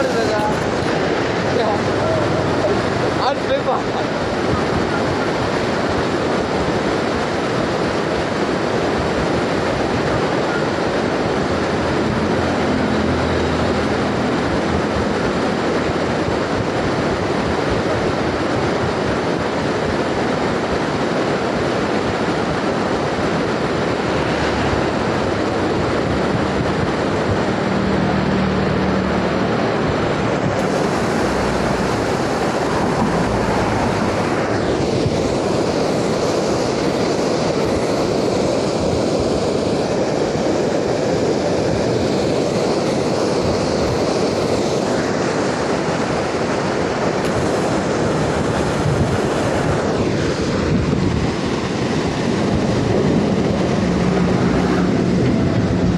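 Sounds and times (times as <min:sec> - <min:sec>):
floodwater roaring over concrete: 0:00.0 - 0:55.9.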